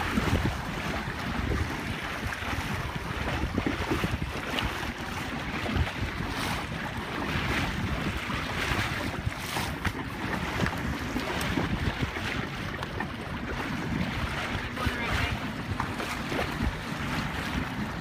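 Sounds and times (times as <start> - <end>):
water slapping along hull: 0.0 - 18.0
wind buffeting microphone: 0.0 - 18.0.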